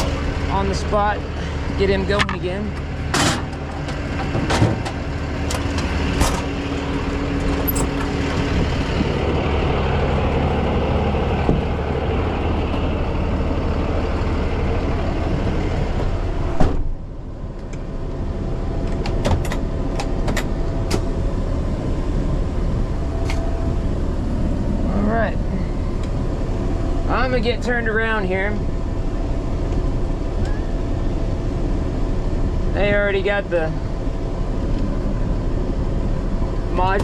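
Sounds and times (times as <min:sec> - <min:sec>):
truck engine and road noise: 0:00.0 - 0:37.0.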